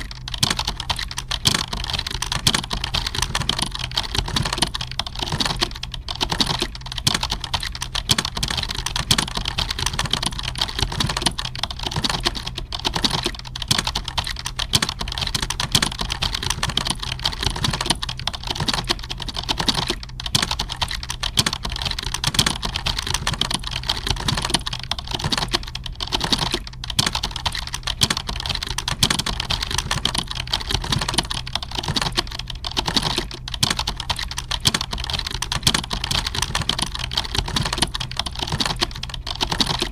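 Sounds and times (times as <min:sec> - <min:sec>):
keyboard typing: 0:00.0 - 0:39.9
steady low hum: 0:00.0 - 0:39.9.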